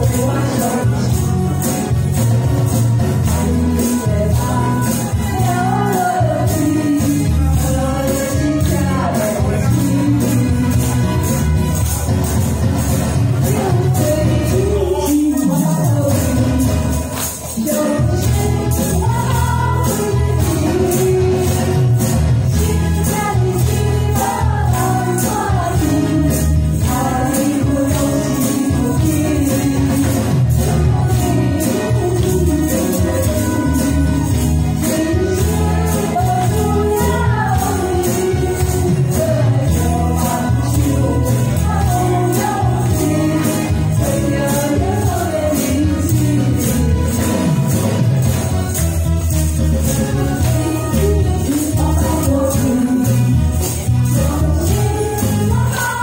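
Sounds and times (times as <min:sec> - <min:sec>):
accompaniment track with steady beat: 0:00.0 - 0:56.0
tambourine-like percussion: 0:00.0 - 0:56.0
women singing a pop duet: 0:03.2 - 0:11.2, 0:13.4 - 0:47.6, 0:49.9 - 0:56.0.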